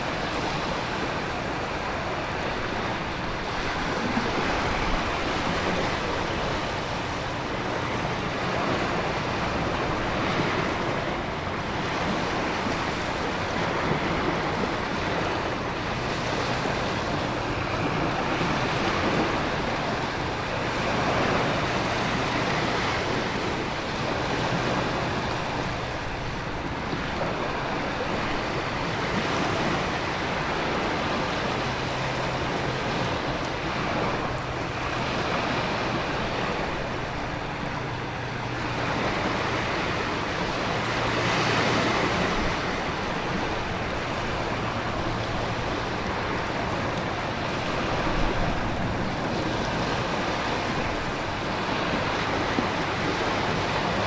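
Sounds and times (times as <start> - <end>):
ocean waves crashing: 0.0 - 54.0
wind: 0.0 - 54.0.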